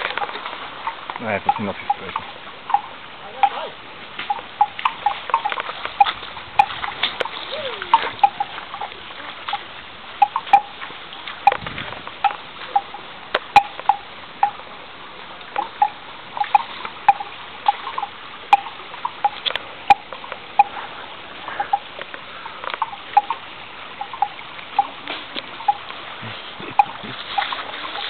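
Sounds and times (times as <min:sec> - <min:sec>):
water dripping: 0:00.0 - 0:28.0.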